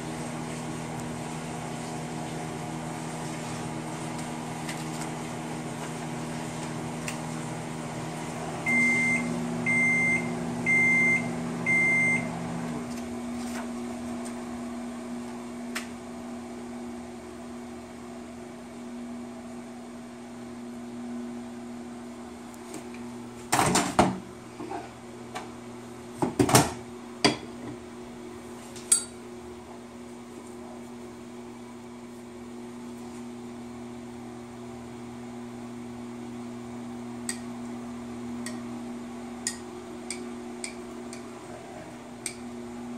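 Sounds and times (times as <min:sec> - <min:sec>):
microwave oven humming: 0:00.0 - 0:42.9.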